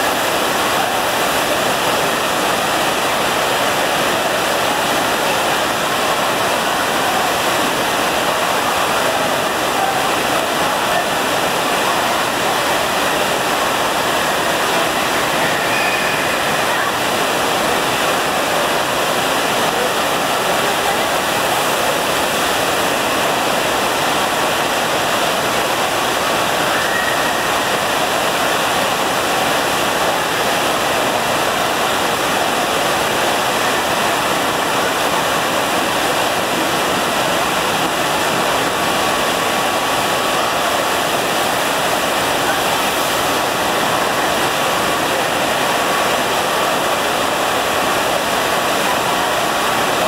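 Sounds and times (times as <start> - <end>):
rush of pumped water: 0.0 - 50.0.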